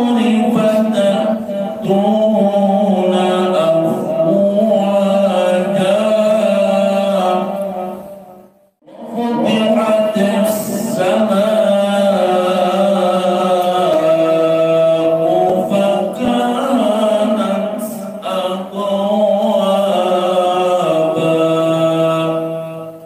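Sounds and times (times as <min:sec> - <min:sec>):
man chanting recitation: 0:00.0 - 0:08.0, 0:08.9 - 0:23.0.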